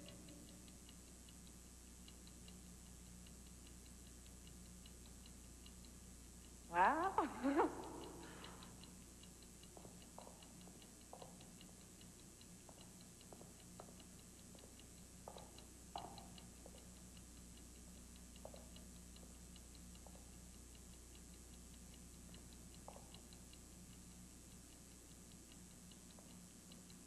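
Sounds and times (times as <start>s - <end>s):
faint steady hum: 0.0s - 27.0s
light regular ticking: 0.0s - 27.0s.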